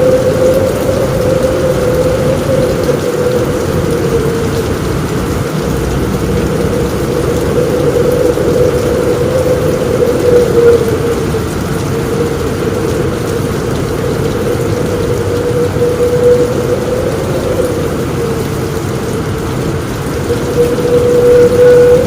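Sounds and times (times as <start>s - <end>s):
heavy rain on a roof: 0.0s - 22.0s.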